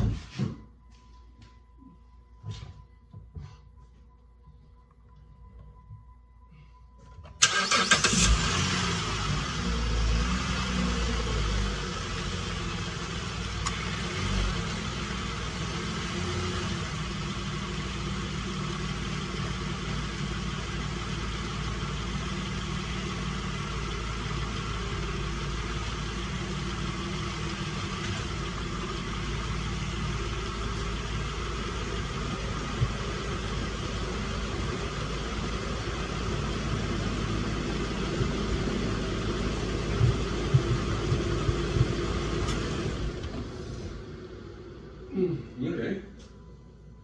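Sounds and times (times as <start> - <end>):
car engine idling: 7.4 - 47.0.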